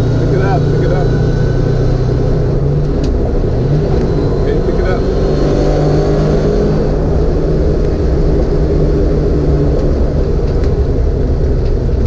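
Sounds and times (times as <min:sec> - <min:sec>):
car engine pulling under throttle: 0:00.0 - 0:12.0
low road rumble: 0:00.0 - 0:12.0.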